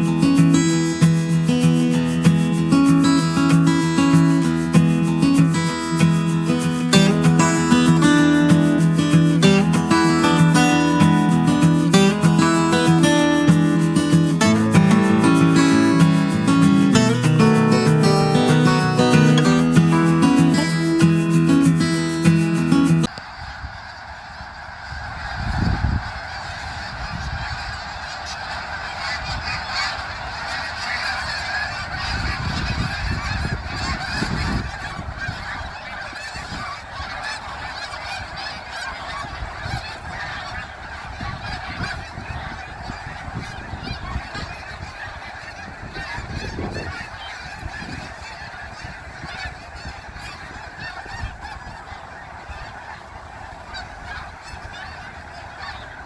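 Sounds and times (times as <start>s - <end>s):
flock of birds calling: 0.0s - 56.0s.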